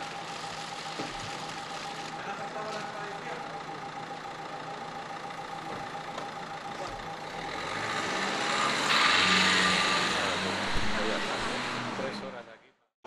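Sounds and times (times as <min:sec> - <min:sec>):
car engine idling: 0:00.0 - 0:12.4
car pulling away: 0:00.0 - 0:12.5.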